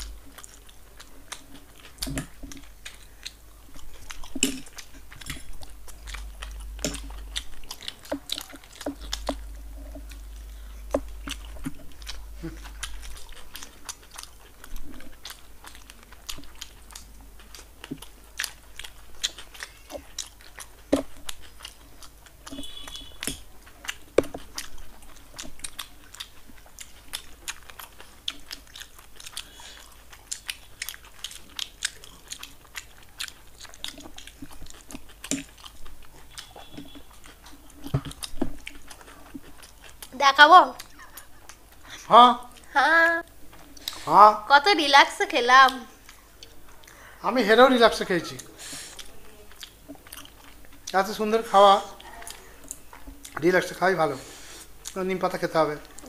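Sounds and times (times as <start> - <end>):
people chewing and biting food: 0.0 - 56.0.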